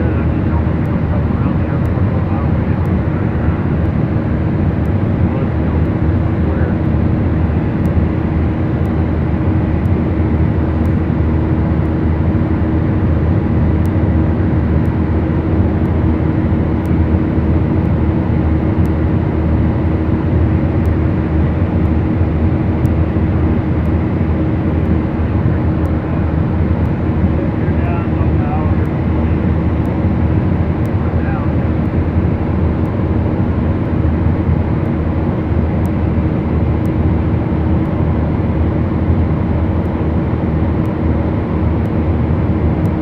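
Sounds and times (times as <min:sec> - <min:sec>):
airplane engines droning: 0:00.0 - 0:43.0.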